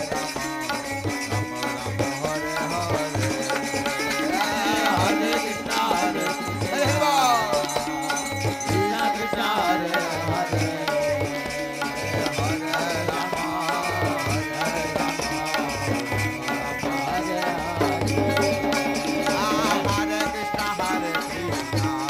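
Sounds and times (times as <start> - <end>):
hand drum beating: 0.0 - 22.0
person singing melody: 0.0 - 22.0.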